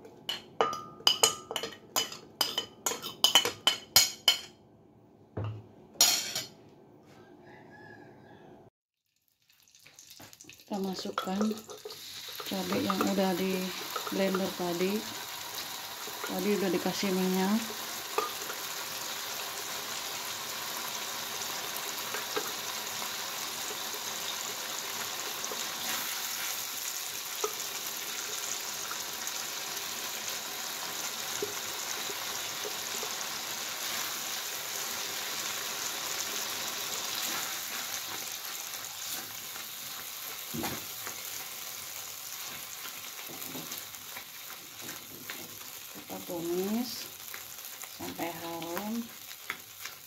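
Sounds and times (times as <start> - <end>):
paste sizzling in hot oil: 9.1 - 50.0.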